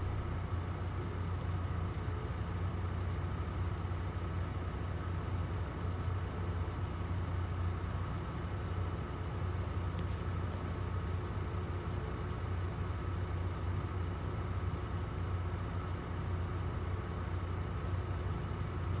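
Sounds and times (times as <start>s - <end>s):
excavator diesel engine humming: 0.0s - 19.0s.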